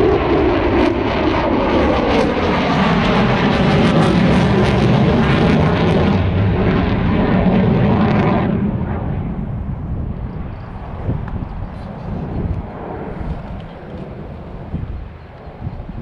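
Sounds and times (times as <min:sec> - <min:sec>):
military aircraft roaring past: 0:00.0 - 0:16.0.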